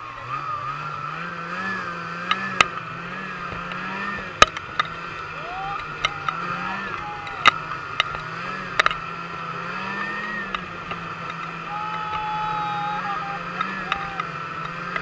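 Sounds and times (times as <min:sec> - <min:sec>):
snowmobile engine running: 0:00.0 - 0:15.0.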